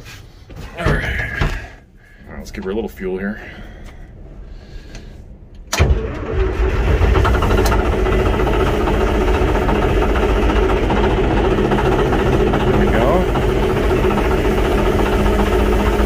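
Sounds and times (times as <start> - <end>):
bulldozer diesel engine starting: 2.4 - 16.0.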